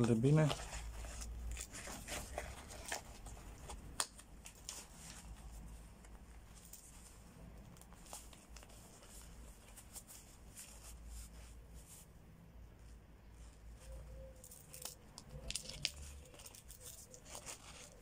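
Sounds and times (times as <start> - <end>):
fabric rustling and scraping: 0.0 - 18.0.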